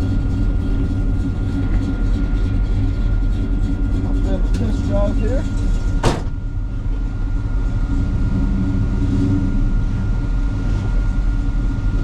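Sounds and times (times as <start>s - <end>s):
car engine low rumble from cabin: 0.0s - 12.0s.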